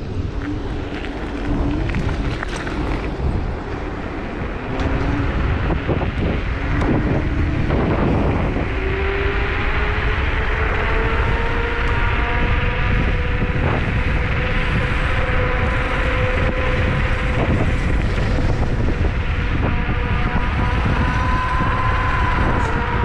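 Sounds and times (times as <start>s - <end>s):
wind on microphone: 0.0s - 23.0s
electric motor whining: 4.4s - 23.0s.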